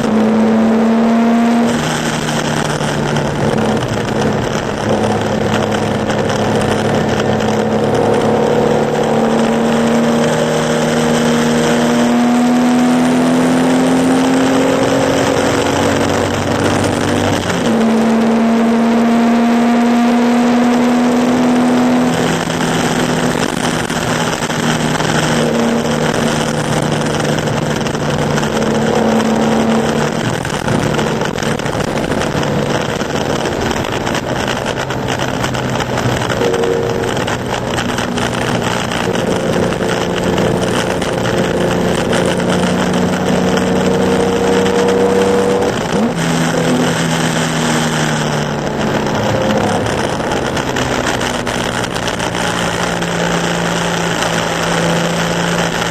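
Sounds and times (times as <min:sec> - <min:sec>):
racing car engine revving: 0:00.0 - 0:55.9.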